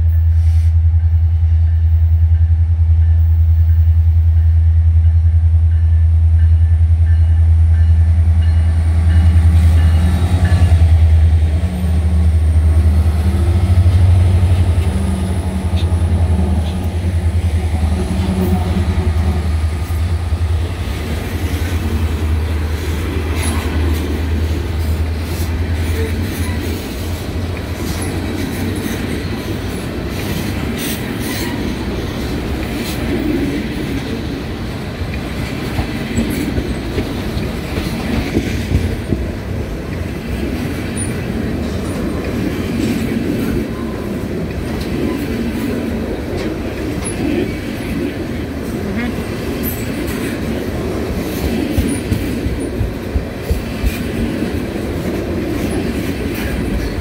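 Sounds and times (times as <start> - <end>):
diesel locomotive engines droning: 0.0 - 57.0
train wheels clickety-clack: 0.0 - 57.0.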